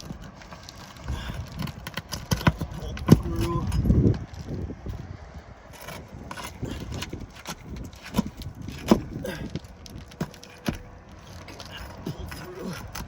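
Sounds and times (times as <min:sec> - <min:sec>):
roof shingle being pried loose: 0:00.0 - 0:04.0, 0:05.7 - 0:13.0.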